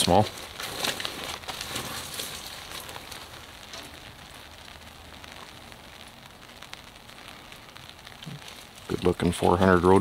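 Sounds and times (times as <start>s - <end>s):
light scattered crackles: 0.0s - 10.0s
outdoor background hiss: 0.0s - 10.0s.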